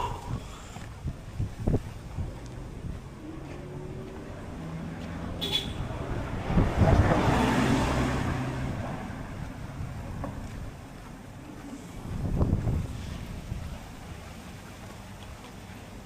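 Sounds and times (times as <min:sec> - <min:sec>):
car engine and road noise: 0:00.0 - 0:16.0
rush of passing traffic: 0:00.0 - 0:16.0.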